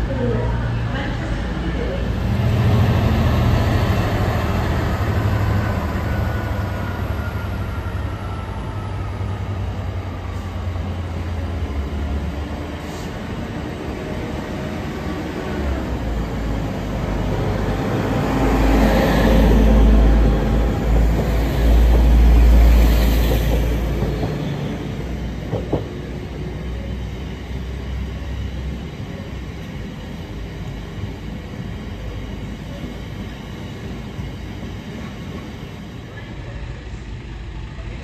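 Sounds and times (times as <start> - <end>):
freight train rumble and clatter: 0.0 - 38.0
passenger train passing: 0.0 - 38.0.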